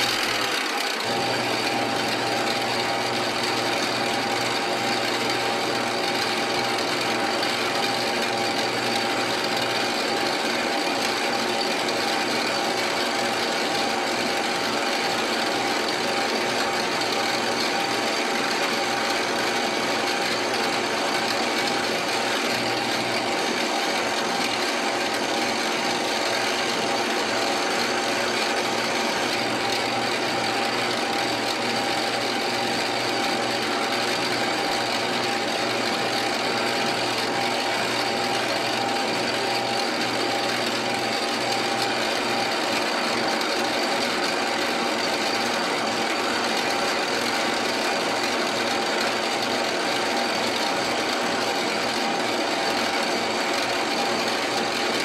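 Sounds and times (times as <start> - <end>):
metal lathe running: 0.0 - 55.0.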